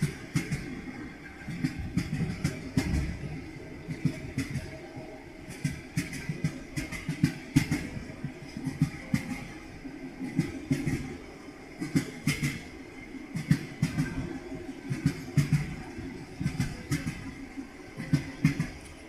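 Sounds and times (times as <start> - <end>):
low train rumble: 0.0 - 19.0
train wheels clattering over rails: 0.0 - 19.0.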